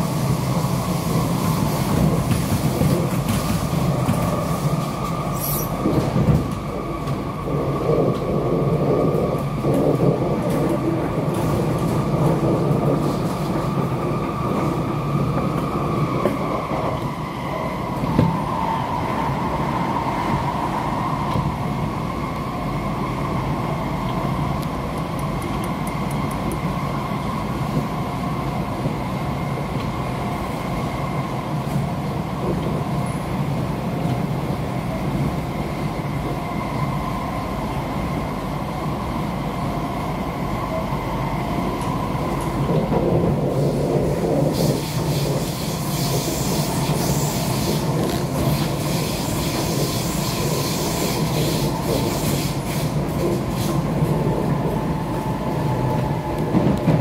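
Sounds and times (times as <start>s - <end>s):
train rumble and whine: 0.0s - 57.0s.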